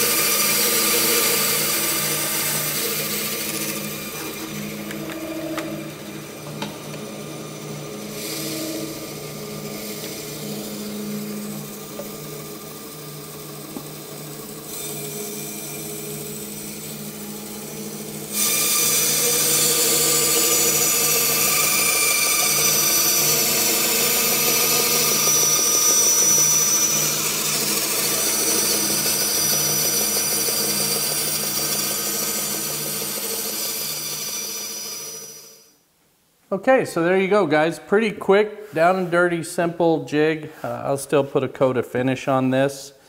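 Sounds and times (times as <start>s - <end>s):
bandsaw cutting wood: 0.0s - 35.7s.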